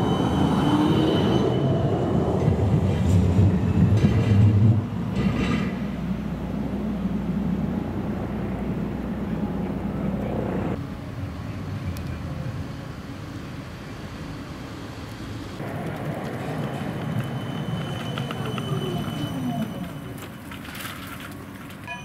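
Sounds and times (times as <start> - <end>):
tram rumbling on rails: 0.0 - 22.0.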